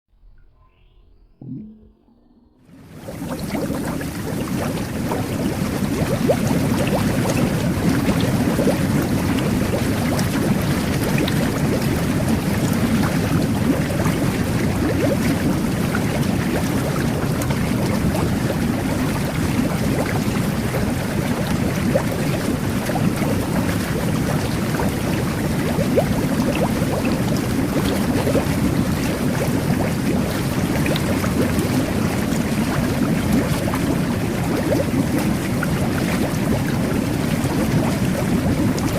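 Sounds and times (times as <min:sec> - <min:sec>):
whirlpool tub jets bubbling: 0:02.6 - 0:38.9.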